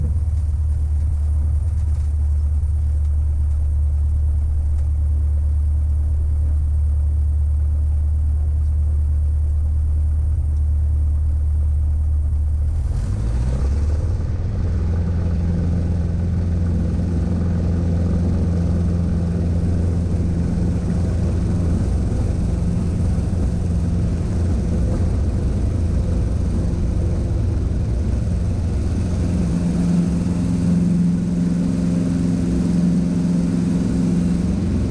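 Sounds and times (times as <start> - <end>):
light aircraft engine from cabin: 0.0 - 34.9.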